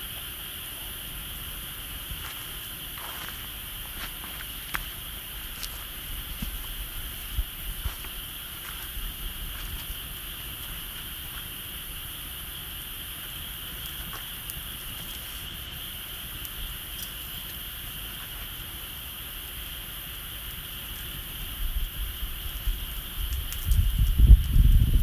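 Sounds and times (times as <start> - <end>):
insect chorus: 0.0 - 25.0
bonfire crackling: 0.2 - 25.0.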